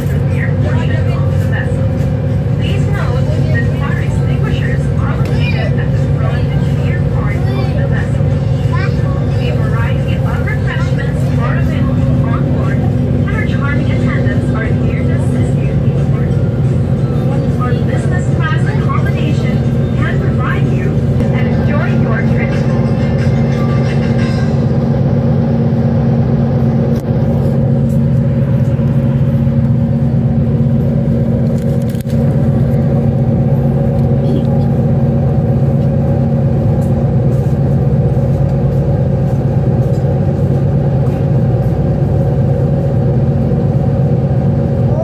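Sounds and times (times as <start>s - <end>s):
ferry engines droning: 0.0s - 45.0s.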